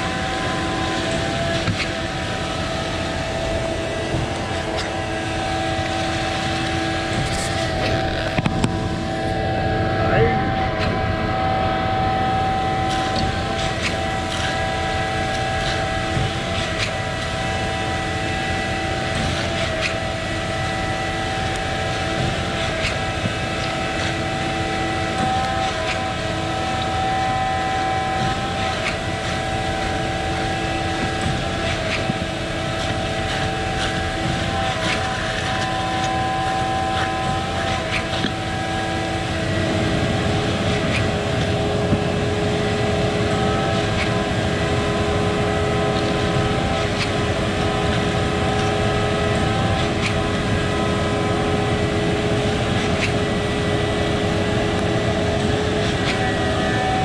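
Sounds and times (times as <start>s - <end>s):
pump truck engine droning: 0.0s - 57.0s.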